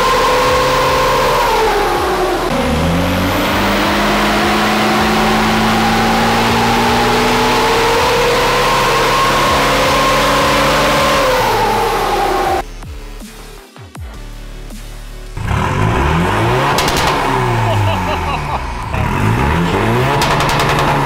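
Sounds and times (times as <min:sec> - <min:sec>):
diesel engine revving under load: 0:00.0 - 0:12.6, 0:15.4 - 0:21.0.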